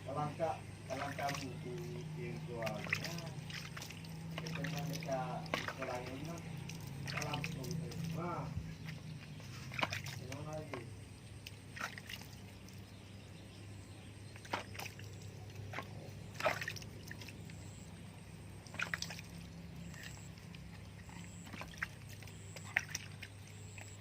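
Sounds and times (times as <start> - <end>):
low steady hum: 0.0 - 24.0
water sloshing and splashing: 0.0 - 24.0.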